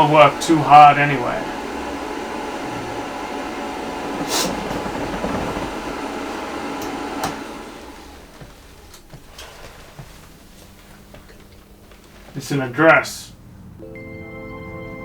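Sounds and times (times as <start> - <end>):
mechanical rumble with hum: 0.0 - 13.8.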